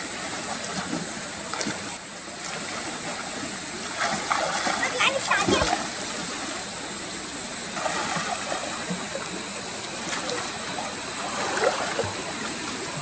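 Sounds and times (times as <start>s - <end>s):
flowing water splashing: 0.0s - 13.0s.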